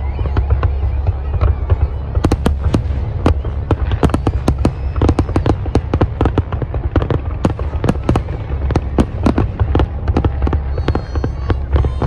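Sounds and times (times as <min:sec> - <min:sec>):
fireworks cracking and banging: 0:00.0 - 0:12.0
steady low rumble: 0:00.0 - 0:12.0.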